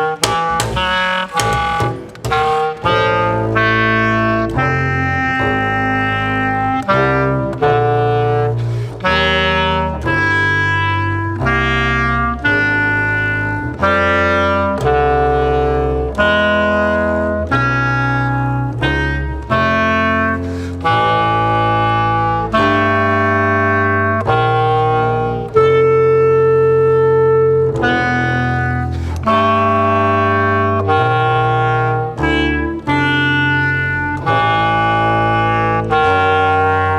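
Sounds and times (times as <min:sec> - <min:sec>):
clarinet and double bass: 0:00.0 - 0:36.9.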